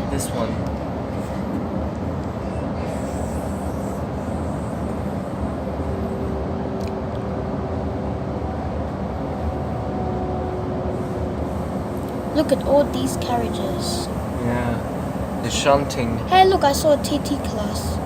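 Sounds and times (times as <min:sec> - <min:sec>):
electric train running rumble: 0:00.0 - 0:18.0
faint motor whine: 0:00.0 - 0:18.0.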